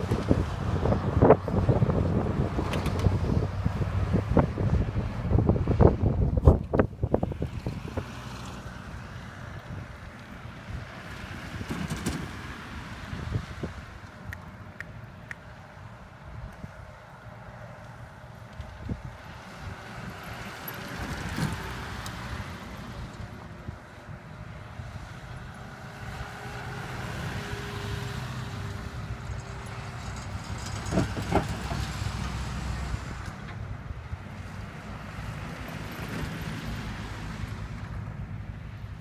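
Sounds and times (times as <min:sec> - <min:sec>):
vehicles driving on gravel: 0:00.0 - 0:39.0.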